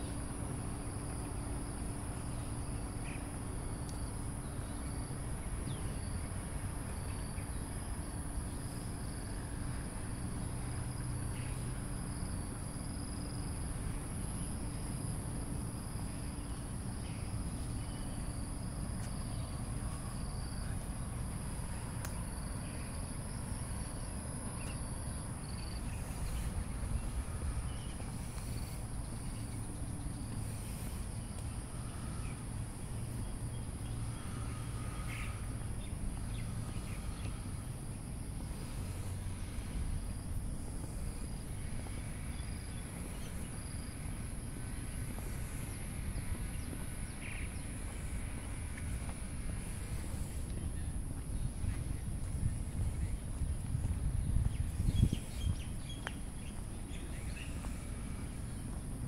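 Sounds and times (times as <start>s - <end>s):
insects droning: 0.0s - 59.0s
low background rumble: 0.0s - 59.0s.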